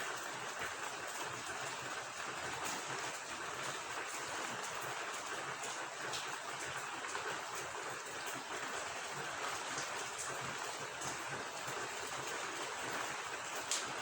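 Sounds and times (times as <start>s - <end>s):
running water: 0.0s - 14.0s
steady rain falling: 0.0s - 14.0s.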